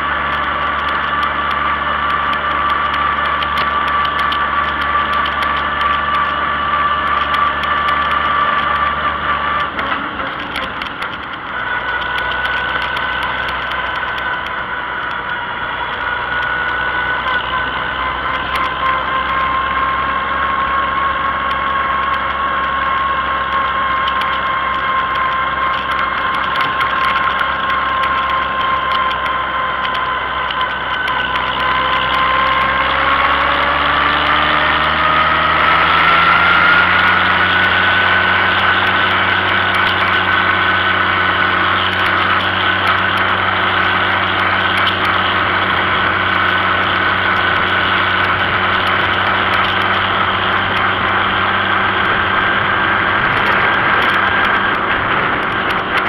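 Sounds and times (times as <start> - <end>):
steady whine: 0.0 - 56.0
tractor engine running: 0.0 - 56.0.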